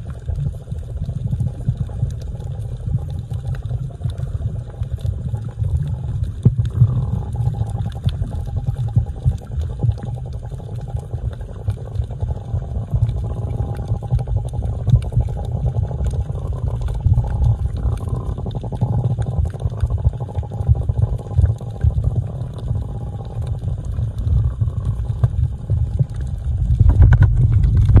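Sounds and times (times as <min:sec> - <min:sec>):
crackle of reef clicks: 0:00.0 - 0:28.0
underwater bubbling rumble: 0:00.0 - 0:28.0.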